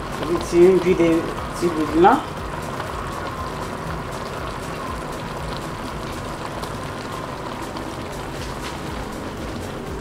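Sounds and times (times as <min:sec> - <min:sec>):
food sizzling in a pot: 0:00.0 - 0:10.0.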